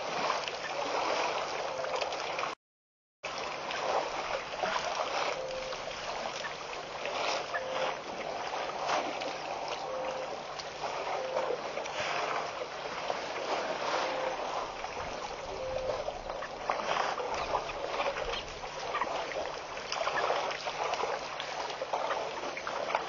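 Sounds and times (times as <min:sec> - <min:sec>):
water splashing and sloshing: 0:00.0 - 0:02.6, 0:03.2 - 0:23.0.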